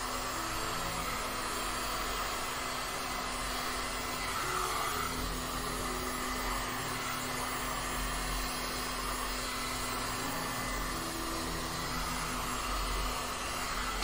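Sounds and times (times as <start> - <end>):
heat gun blowing air: 0.0 - 14.0.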